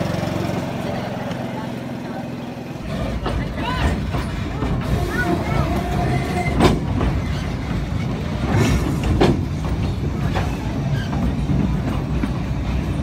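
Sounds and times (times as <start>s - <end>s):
carriages rumbling on rails: 0.0s - 13.0s.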